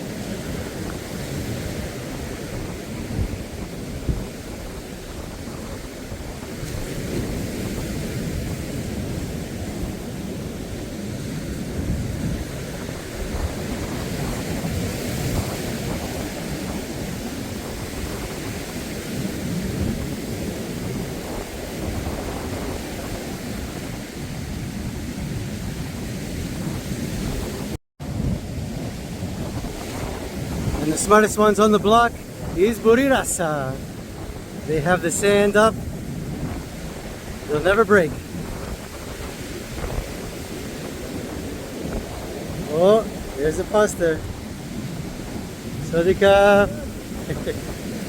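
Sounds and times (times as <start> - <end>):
surf from rough sea: 0.0 - 48.0
wind buffeting microphone: 0.0 - 48.0.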